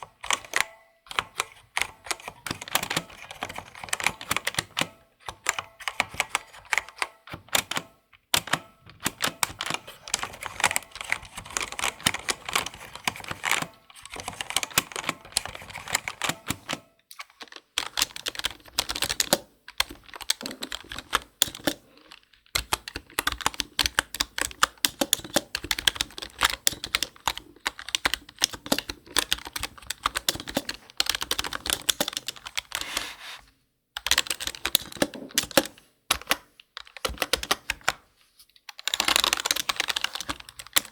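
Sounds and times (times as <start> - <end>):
computer keyboard typing: 0.0 - 33.0, 34.0 - 38.1, 38.7 - 40.9.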